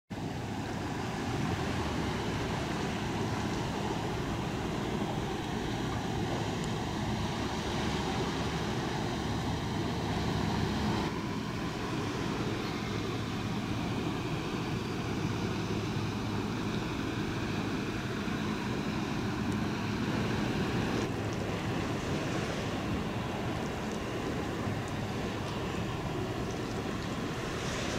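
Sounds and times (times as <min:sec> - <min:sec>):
boat diesel engines droning: 0:00.1 - 0:27.9.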